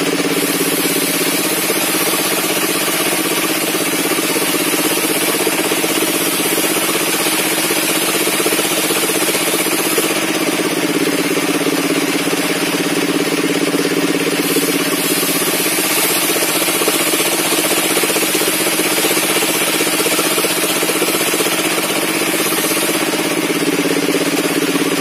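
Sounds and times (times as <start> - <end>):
circular saw engine running: 0.0 - 25.0.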